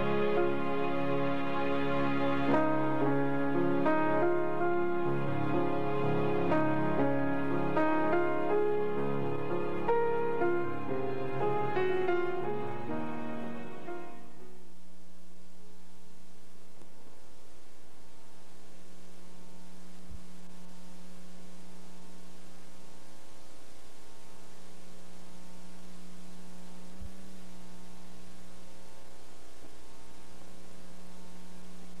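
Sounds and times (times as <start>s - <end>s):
electrical hum with hiss: 0.0s - 32.0s.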